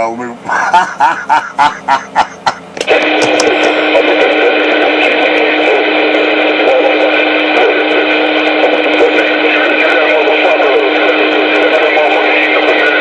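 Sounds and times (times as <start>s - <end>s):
loud buzzing radio transmission: 0.0s - 13.0s.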